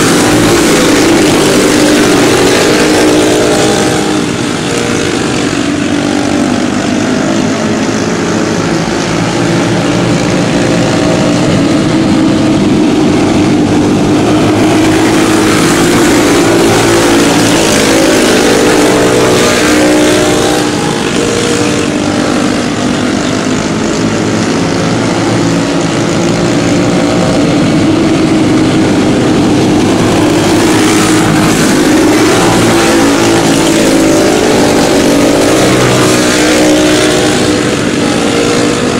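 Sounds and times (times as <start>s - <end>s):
racing kart engines running flat out: 0.0s - 38.9s.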